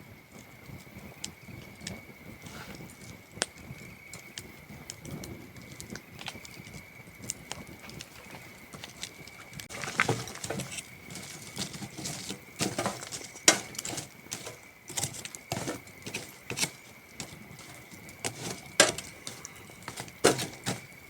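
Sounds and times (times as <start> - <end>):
campfire crackling and popping: 0.0 - 21.0
crickets chirping: 0.0 - 21.0.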